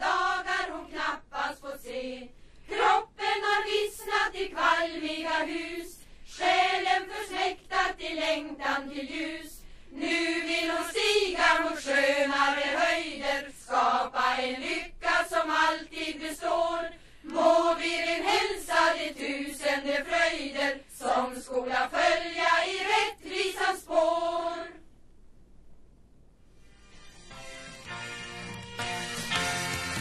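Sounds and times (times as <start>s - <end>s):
choir singing: 0.0s - 24.8s.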